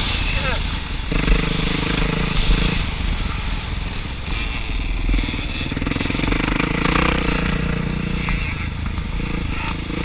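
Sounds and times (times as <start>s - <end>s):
dirt bike engine running: 1.1s - 10.0s.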